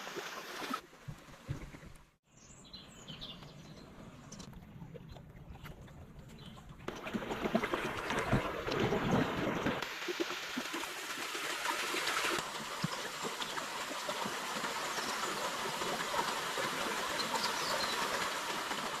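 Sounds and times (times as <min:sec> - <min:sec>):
stream water running: 0:00.0 - 0:02.2, 0:03.4 - 0:19.0.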